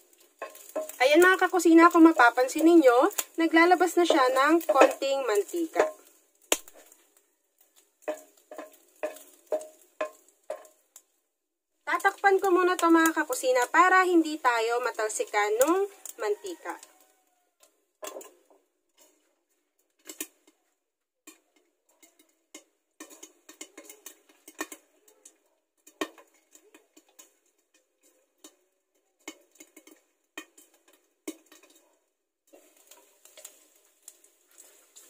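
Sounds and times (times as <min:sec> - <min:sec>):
fat popping and crackling: 0:00.0 - 0:11.2, 0:11.8 - 0:35.0
faint sizzle: 0:00.0 - 0:35.0.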